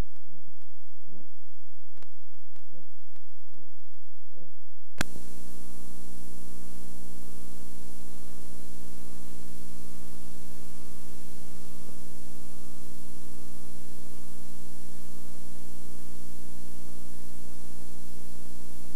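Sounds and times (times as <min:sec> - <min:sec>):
electrical hum with hiss: 0:00.0 - 0:18.9.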